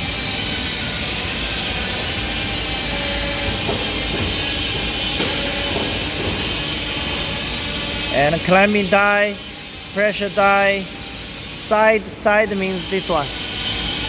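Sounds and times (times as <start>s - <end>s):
tube bending machine hum: 0.0s - 14.0s.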